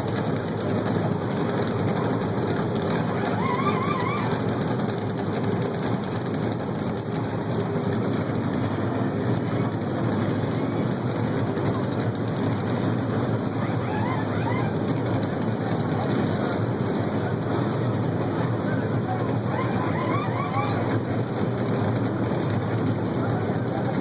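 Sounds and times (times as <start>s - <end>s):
race car engines rumbling: 0.0s - 24.0s.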